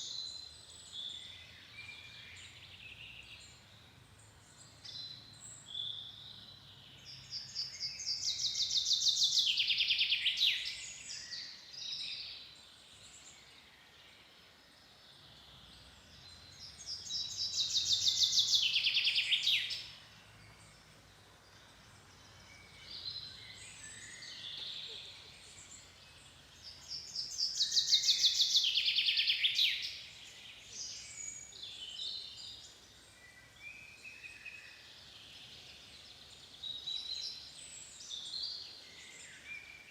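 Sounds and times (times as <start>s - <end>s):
soft bird chirps: 0.0s - 39.9s
songbird trilled song: 0.0s - 39.9s.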